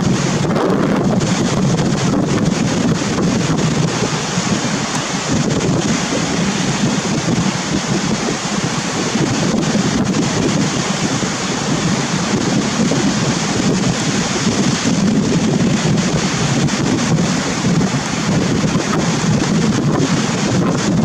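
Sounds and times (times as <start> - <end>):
sea surf: 0.0 - 21.0
wind buffeting microphone: 0.0 - 21.0.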